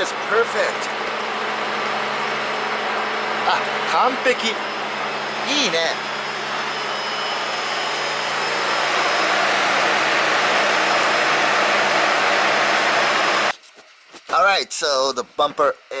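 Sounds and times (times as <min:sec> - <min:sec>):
pump motor humming: 0:00.0 - 0:13.5.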